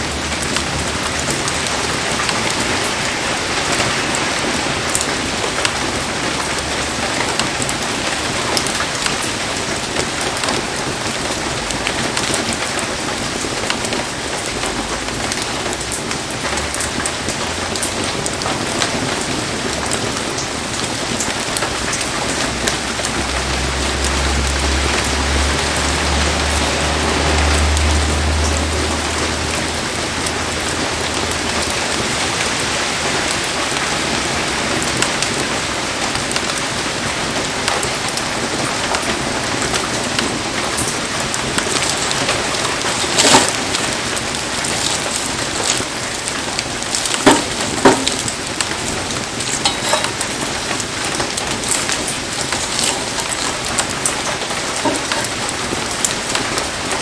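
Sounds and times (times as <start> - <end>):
sharp cracks of campfire: 0.0 - 26.2, 27.4 - 57.0
heavy rain falling: 0.0 - 57.0.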